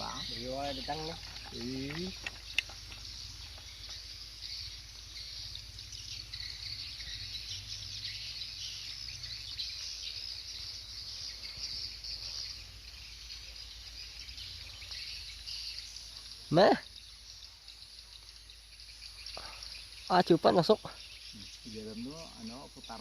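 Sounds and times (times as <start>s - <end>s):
birds twittering: 0.0s - 23.0s.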